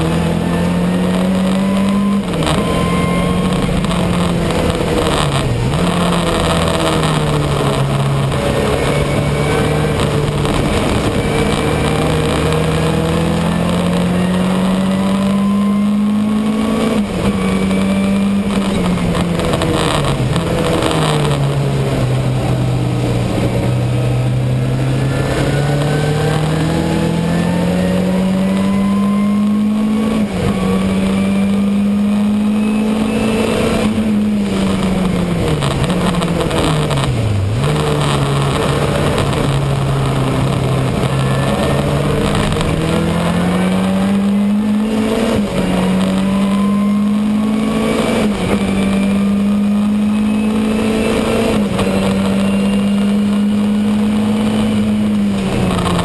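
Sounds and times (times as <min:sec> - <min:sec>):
race car engine from inside: 0:00.0 - 0:56.0.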